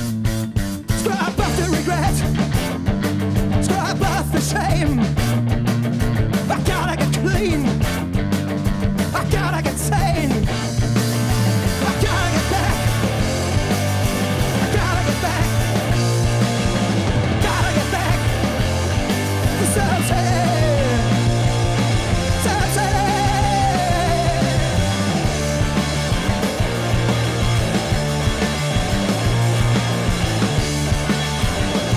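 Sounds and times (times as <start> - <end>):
heavy bass line: 0.0 - 31.9
live rock band playing: 0.0 - 31.9.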